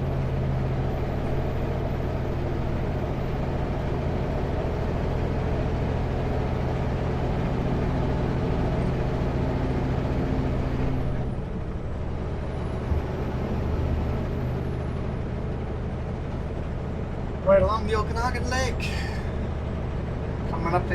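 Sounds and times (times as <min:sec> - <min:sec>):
road noise: 0:00.0 - 0:20.9
truck diesel engine running: 0:00.0 - 0:20.9.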